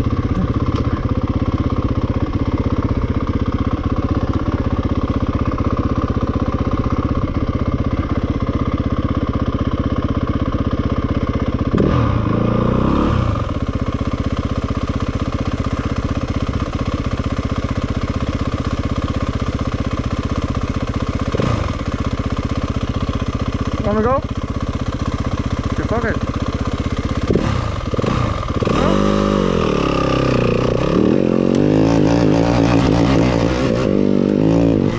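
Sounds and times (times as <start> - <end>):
dirt bike engine idling and revving: 0.0 - 34.9.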